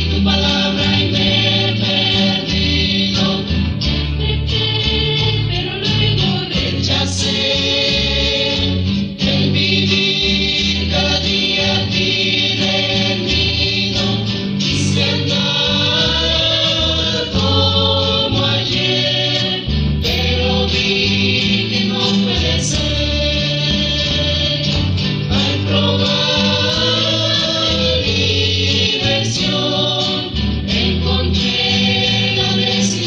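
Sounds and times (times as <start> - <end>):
group of voices singing in harmony: 0.0 - 33.0
guitar accompaniment: 0.0 - 33.0
low bass line: 0.0 - 33.0.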